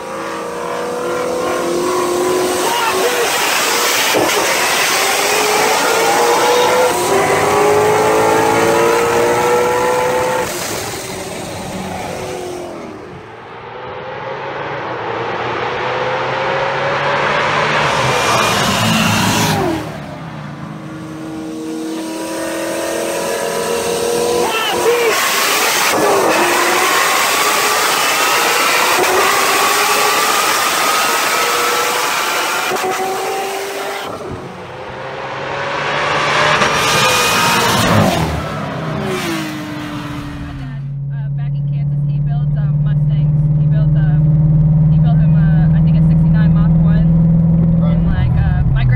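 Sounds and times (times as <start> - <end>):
car engine drone: 0.0 - 48.9.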